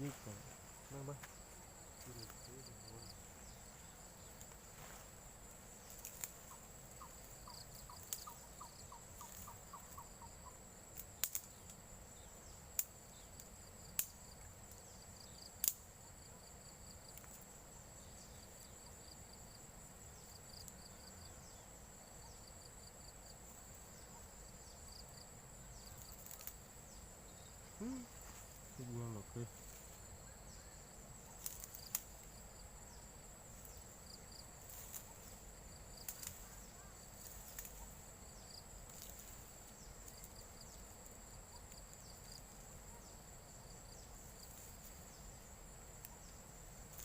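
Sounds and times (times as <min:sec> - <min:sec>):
crickets trilling: 0:00.0 - 0:47.0.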